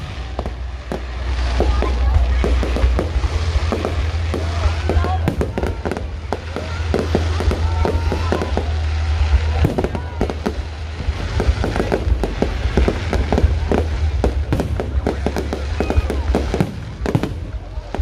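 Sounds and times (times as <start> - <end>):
fireworks bursting: 0.0 - 18.0
low rumble: 0.0 - 18.0.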